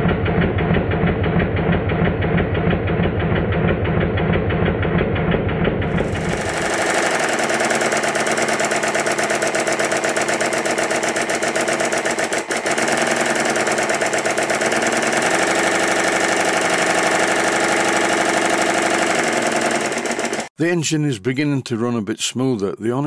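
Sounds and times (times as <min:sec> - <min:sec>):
valve-gear clatter: 0:00.0 - 0:20.5.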